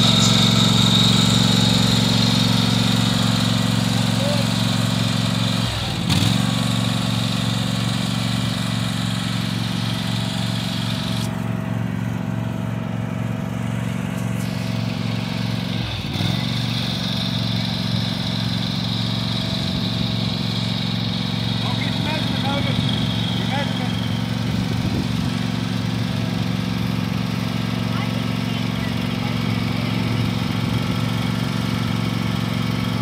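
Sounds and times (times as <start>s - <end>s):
riding lawn mower engine running: 0.0s - 33.0s.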